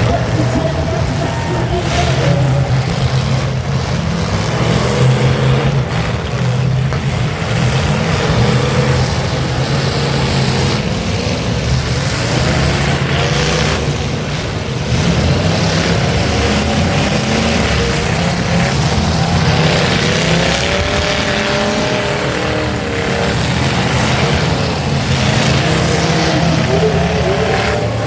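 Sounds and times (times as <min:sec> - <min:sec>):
car engines revving loudly: 0:00.0 - 0:28.0.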